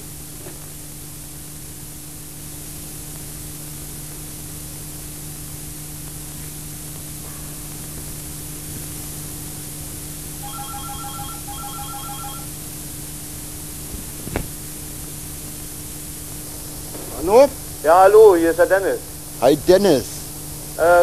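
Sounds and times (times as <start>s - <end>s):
tape hiss and static: 0.0s - 21.0s.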